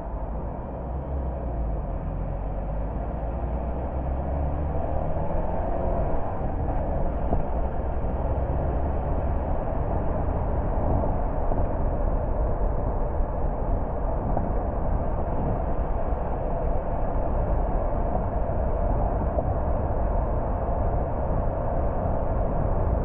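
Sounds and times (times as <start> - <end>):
low engine hum: 0.0 - 23.0
road and tyre noise: 0.0 - 23.0.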